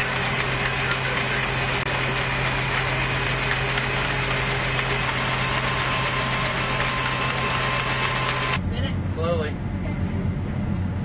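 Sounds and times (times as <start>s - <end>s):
machinery drone: 0.0s - 11.0s.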